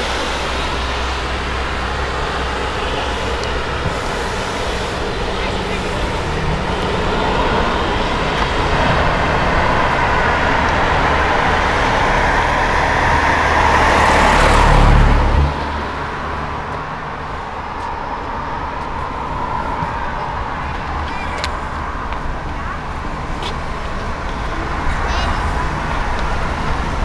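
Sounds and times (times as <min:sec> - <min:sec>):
motor vehicle passing: 0:00.0 - 0:27.0
quiet traffic noise: 0:00.0 - 0:27.0.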